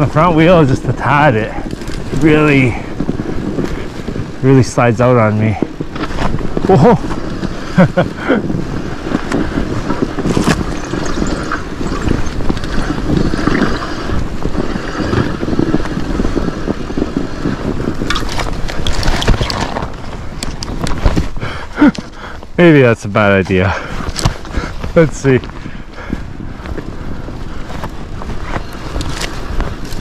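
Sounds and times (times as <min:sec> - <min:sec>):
bike tyres rolling over snow: 0:00.0 - 0:30.0.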